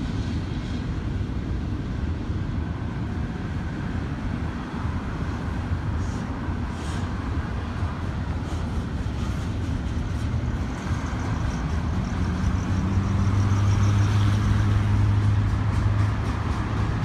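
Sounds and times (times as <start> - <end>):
freeway traffic passing: 0.0 - 17.0
low engine hum: 0.0 - 17.0
train rolling across bridge: 0.0 - 17.0.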